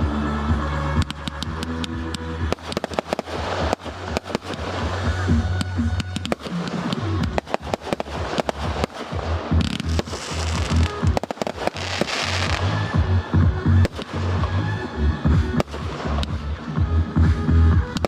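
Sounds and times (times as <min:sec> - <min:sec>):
fireworks bangs and crackling: 0:00.0 - 0:18.0
music playing: 0:00.0 - 0:18.0.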